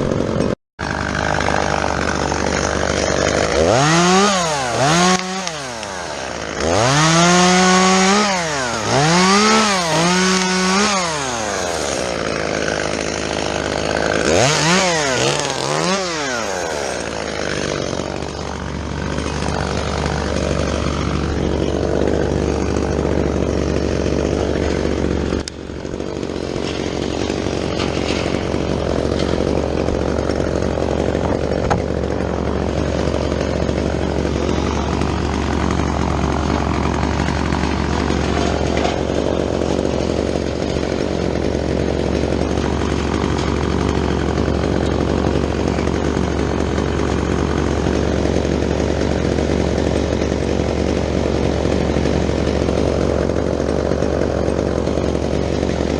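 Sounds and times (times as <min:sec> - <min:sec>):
chainsaw engine revving: 0:00.0 - 0:55.9.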